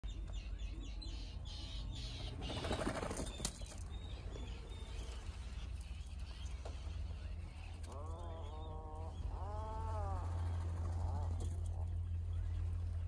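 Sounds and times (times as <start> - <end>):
terns calling: 1.0 - 13.0.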